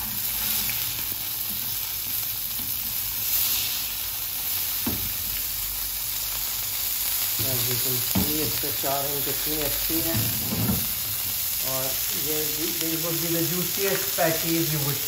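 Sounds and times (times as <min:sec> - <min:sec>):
burger patties sizzling on griddle: 0:00.0 - 0:15.0.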